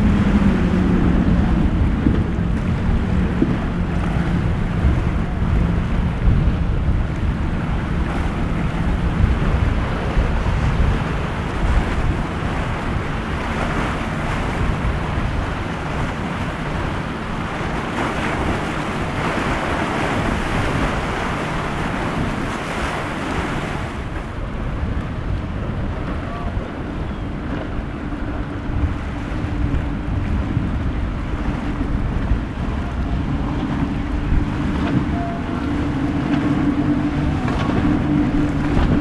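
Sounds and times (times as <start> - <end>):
outboard engines droning: 0.0 - 39.0
waves breaking: 0.0 - 39.0
wind on microphone: 0.0 - 39.0.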